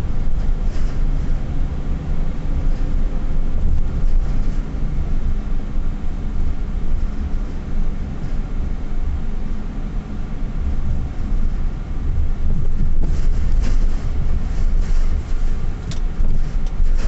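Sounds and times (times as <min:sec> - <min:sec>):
vehicle engine and tyres rumbling: 0:00.0 - 0:17.0.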